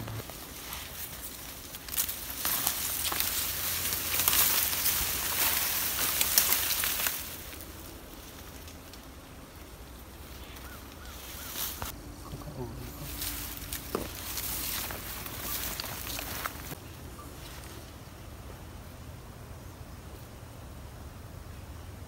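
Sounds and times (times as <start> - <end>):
footsteps rustling through grass: 0.0 - 9.2, 10.1 - 18.7.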